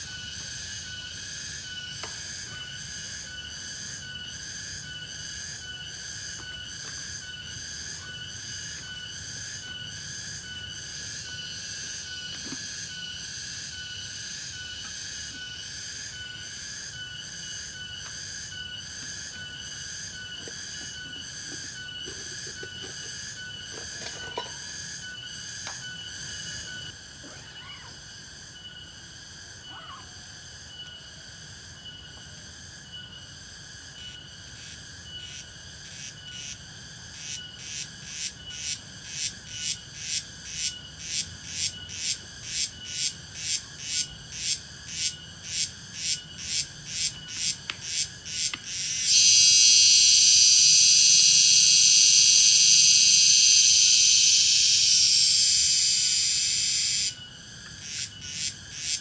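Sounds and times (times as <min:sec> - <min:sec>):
cicada singing: 0:00.0 - 0:59.0.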